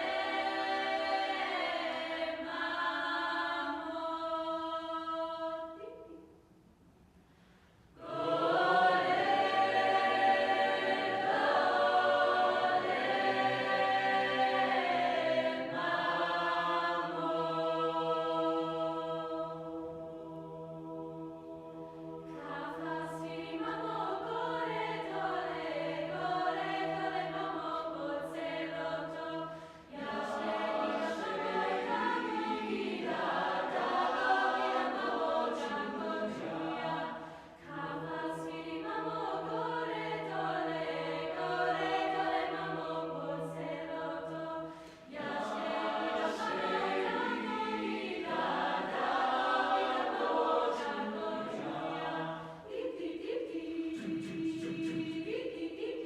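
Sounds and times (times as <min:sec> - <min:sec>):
youth chorus singing a cappella: 0:00.0 - 0:06.3, 0:08.0 - 0:56.0.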